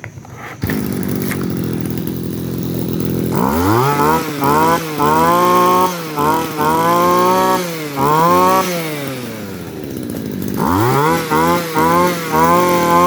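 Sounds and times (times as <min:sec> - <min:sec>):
brush cutter engine revving: 0:00.6 - 0:13.0.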